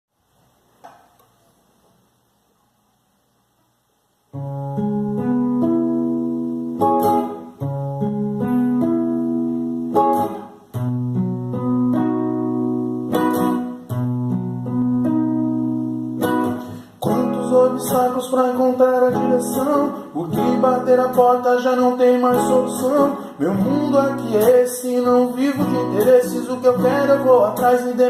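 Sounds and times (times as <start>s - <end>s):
acoustic guitar slow melody: 4.3s - 28.0s.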